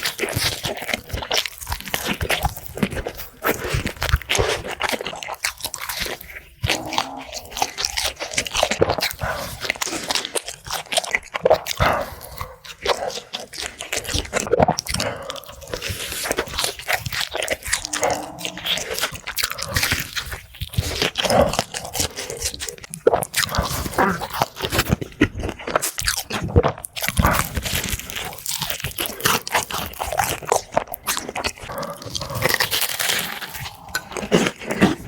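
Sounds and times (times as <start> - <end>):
crunching crispy food: 0.0 - 35.0.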